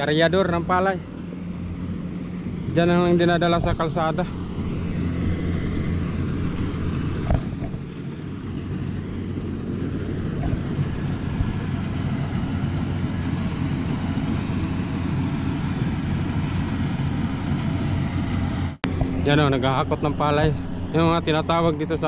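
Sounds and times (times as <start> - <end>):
combine harvester engine drone: 0.0 - 22.0
wind rumble on microphone: 0.0 - 22.0.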